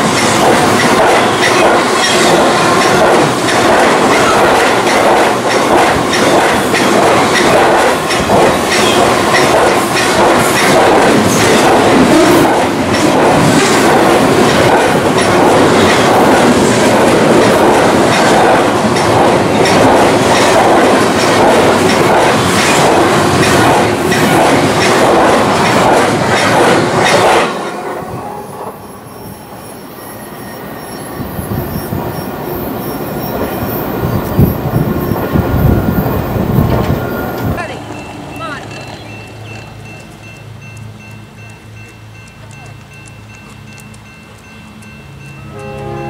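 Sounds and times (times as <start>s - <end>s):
train passing at speed: 0.0s - 46.0s.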